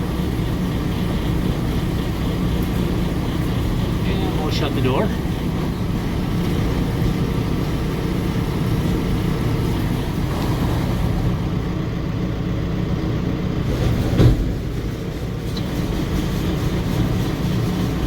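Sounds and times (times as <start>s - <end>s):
round baler running: 0.0s - 18.0s.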